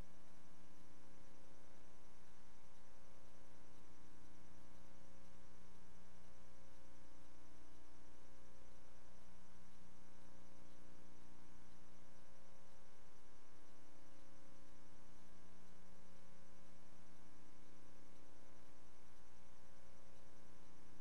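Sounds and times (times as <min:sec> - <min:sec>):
electrical hum with hiss: 0:00.0 - 0:21.0.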